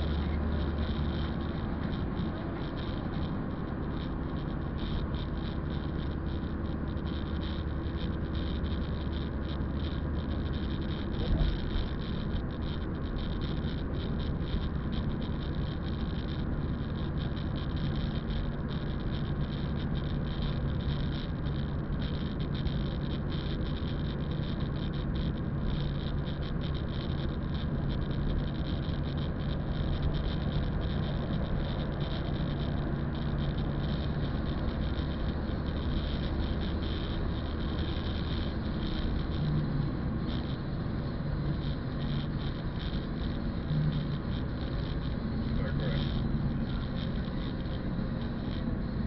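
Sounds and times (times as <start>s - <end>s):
car engine hum: 0.0s - 49.0s.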